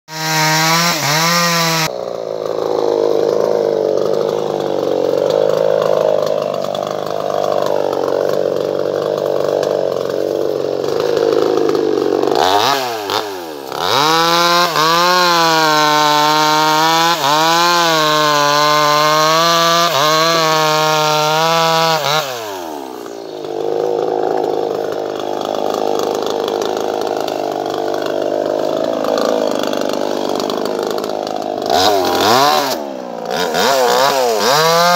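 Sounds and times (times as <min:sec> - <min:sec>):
chainsaw engine running: 0:00.1 - 0:34.9.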